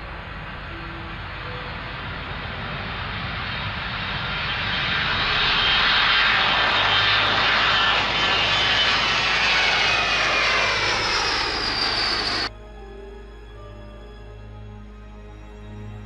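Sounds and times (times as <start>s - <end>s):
jet taking off with roar and whine: 0.0s - 13.8s.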